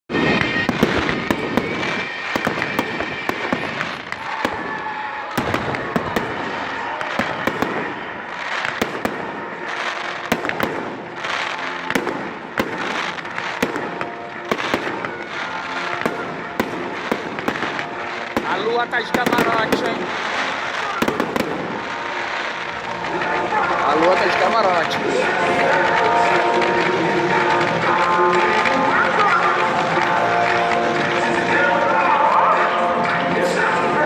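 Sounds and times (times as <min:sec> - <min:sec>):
fireworks bangs and crackling: 0:00.1 - 0:34.0.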